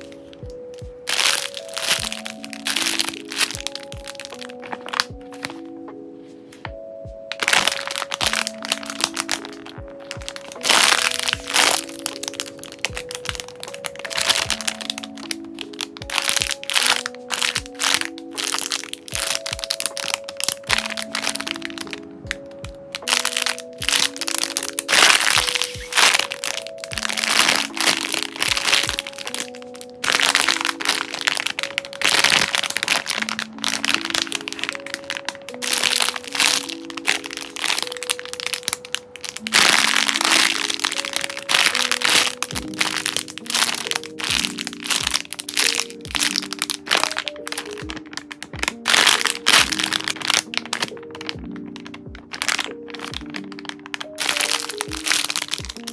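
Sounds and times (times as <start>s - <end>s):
plastic bags crinkling: 0.0s - 5.7s, 7.3s - 55.9s
soft background music: 0.0s - 55.9s.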